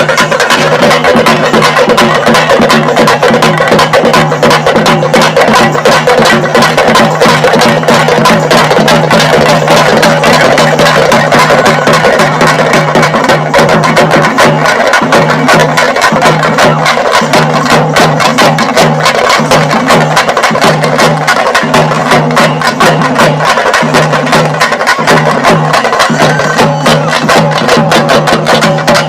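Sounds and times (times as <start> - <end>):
fast dense drumming music: 0.0 - 29.0.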